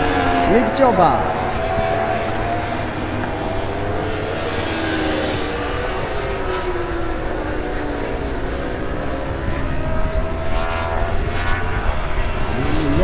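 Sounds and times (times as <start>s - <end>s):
motorcycle engines at high revs: 0.0s - 13.0s.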